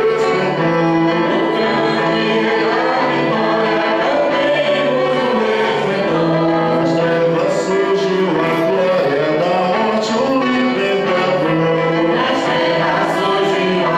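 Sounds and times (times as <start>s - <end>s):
group singing a hymn: 0.0s - 13.9s
instrumental accompaniment: 0.0s - 13.9s.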